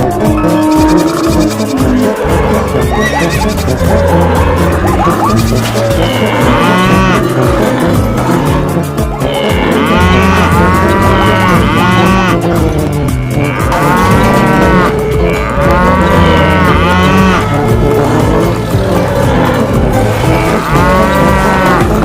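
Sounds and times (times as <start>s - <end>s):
animals bellowing: 0.0s - 22.0s.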